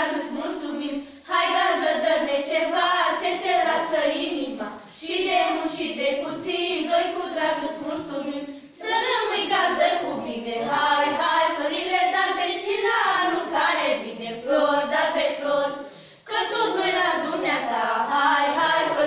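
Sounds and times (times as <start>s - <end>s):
girls singing a carol: 0.0s - 19.0s.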